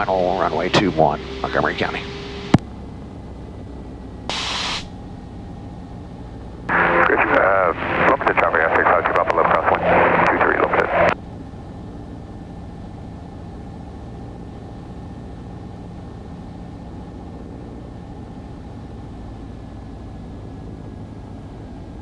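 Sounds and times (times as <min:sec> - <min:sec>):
airplane engine droning: 0:00.0 - 0:22.0.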